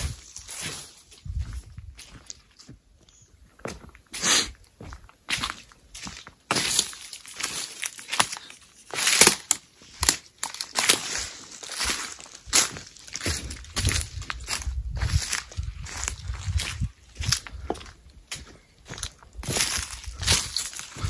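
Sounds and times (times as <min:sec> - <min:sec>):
footsteps crunching on debris: 0:00.0 - 0:21.0.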